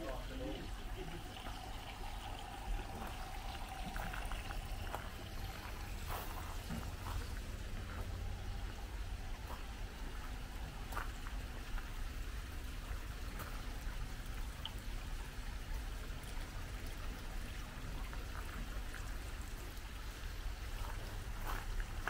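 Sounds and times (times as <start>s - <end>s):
water trickling into pond: 0.0s - 22.0s.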